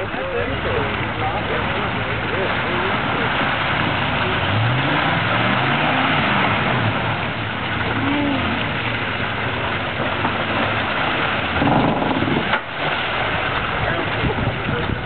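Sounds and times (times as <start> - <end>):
mud and water churning: 0.0 - 15.0
truck engine running: 0.0 - 15.0.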